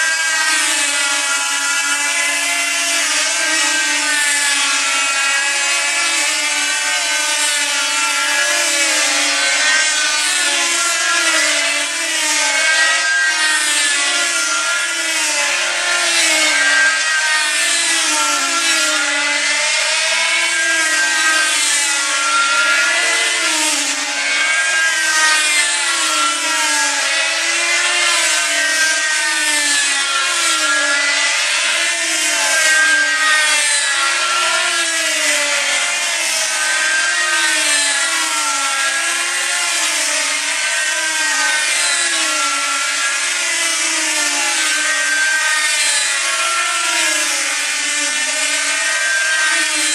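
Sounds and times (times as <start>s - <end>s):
model aircraft engines circling: 0.0s - 49.9s.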